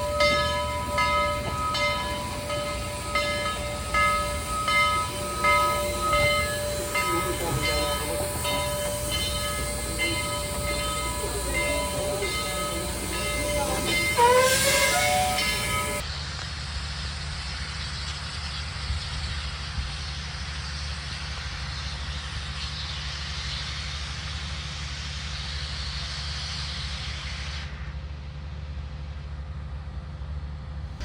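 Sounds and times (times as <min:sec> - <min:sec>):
steam hissing: 0:00.0 - 0:16.1, 0:16.9 - 0:28.1
locomotive low rumble: 0:00.0 - 0:31.0.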